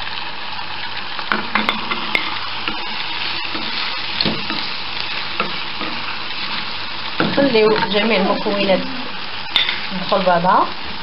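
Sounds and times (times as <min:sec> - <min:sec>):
oil sizzling in pan: 0:00.0 - 0:11.0.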